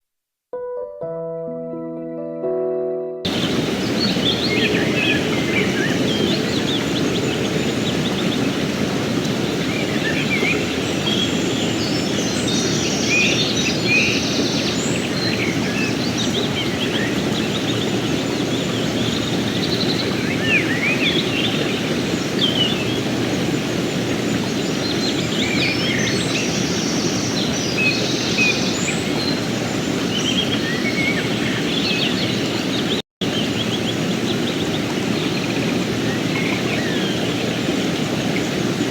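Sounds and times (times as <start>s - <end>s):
mountain stream rushing: 3.3s - 38.9s
small birds chirping: 3.3s - 38.9s.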